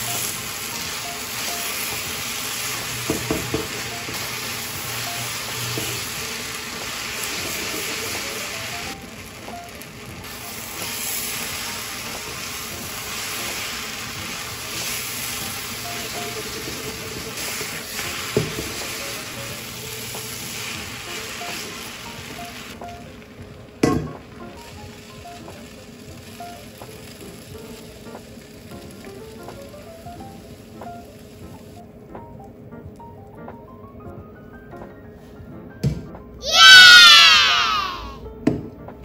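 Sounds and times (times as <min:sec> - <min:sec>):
noodles sizzling in a frying pan: 0:00.0 - 0:32.0, 0:36.4 - 0:38.2.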